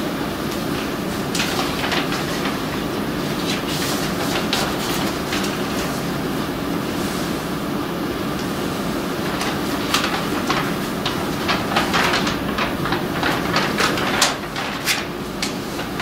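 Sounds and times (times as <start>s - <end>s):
steady background noise: 0.0s - 16.0s
paper rustling and crackling: 0.5s - 6.5s, 9.1s - 16.0s.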